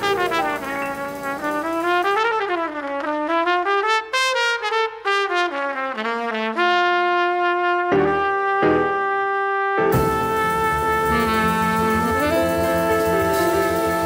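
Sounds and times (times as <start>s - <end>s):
jazz trumpet playing: 0.0s - 14.0s.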